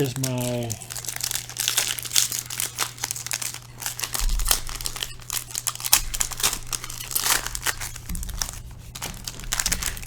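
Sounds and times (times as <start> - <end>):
plastic wrappers crumpling: 0.0 - 10.0.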